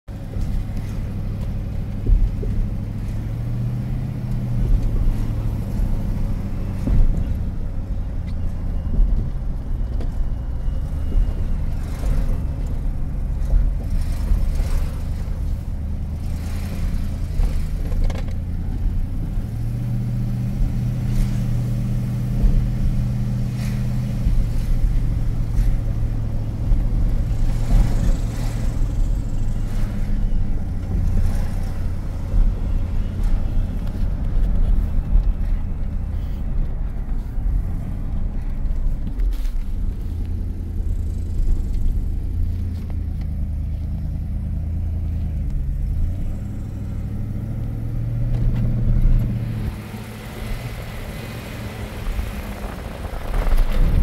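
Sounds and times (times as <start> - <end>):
rough engine rumble: 0.1 - 54.0.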